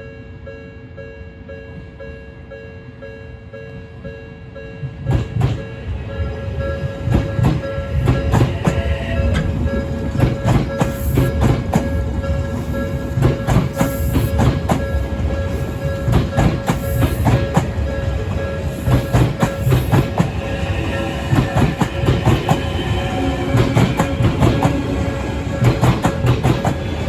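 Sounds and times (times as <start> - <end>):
crossing warning bell ringing: 0.0 - 27.0
train wheels clacking over joints: 5.1 - 27.0.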